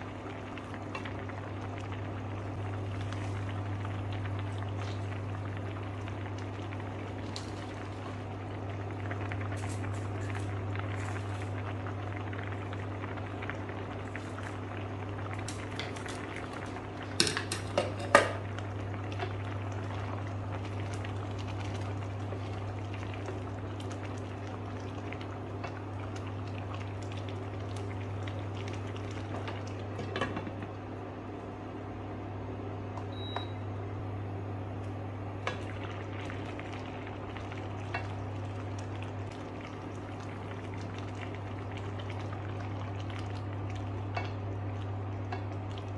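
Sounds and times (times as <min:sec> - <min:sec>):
constant low hum: 0:00.0 - 0:45.9
soup bubbling in pot: 0:00.0 - 0:45.9.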